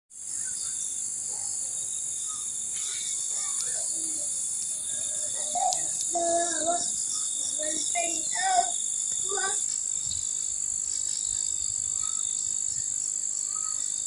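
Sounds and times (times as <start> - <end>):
faint bird chirps: 0.2 - 14.0
high-pitched insect chorus: 0.2 - 14.0.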